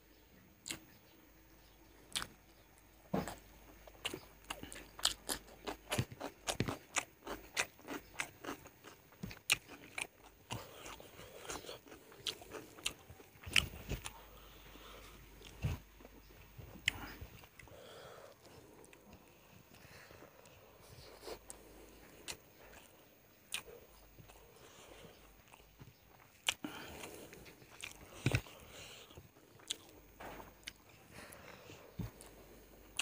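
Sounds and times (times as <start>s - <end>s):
wet chewing and smacking: 3.2s - 14.6s, 15.4s - 31.0s.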